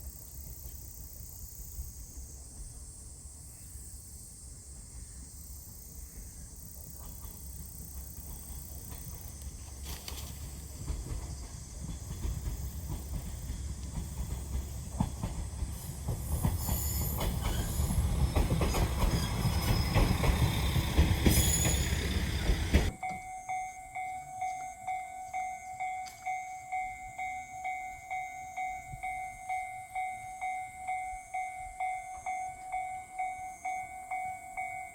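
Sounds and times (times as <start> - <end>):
diesel railcar rumble: 0.0 - 34.9.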